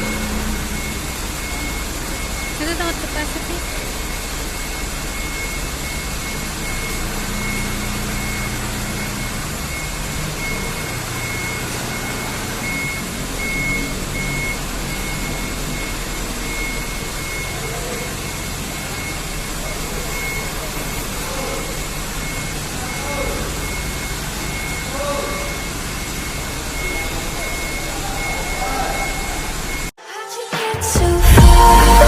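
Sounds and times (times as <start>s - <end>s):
truck engine running: 0.0s - 29.9s
reversing alarm beeping: 0.0s - 30.0s.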